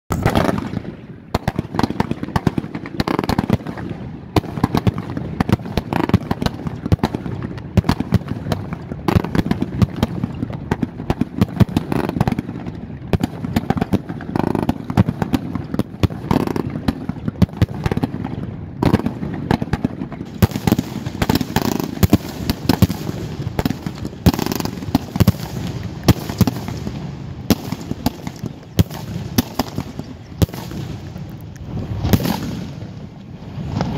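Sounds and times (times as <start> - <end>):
fireworks barrage thumps and bangs: 0.1 - 33.9.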